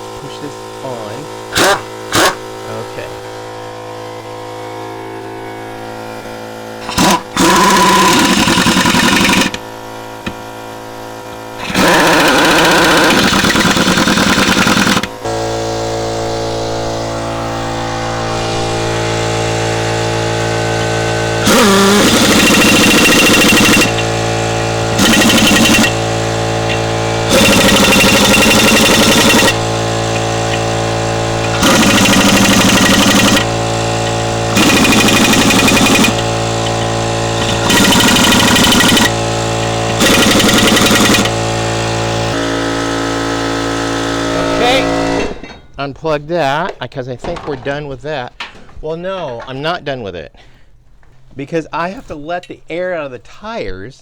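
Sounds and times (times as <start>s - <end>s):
pneumatic impact wrench bursts: 0.0s - 45.8s
air compressor humming: 0.0s - 54.0s.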